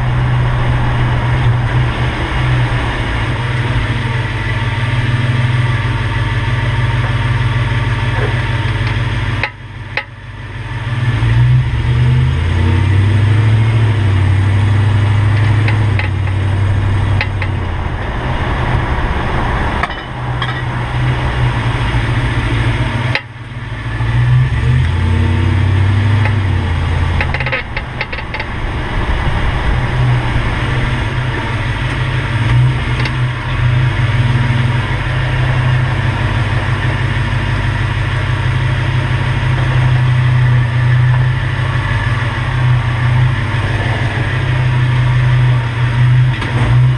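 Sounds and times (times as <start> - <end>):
pickup truck engine running: 0.0 - 46.9.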